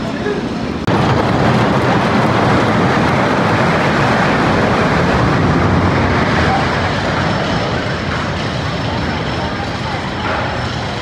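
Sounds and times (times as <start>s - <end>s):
roller coaster rumbling on wooden track: 0.0s - 11.0s.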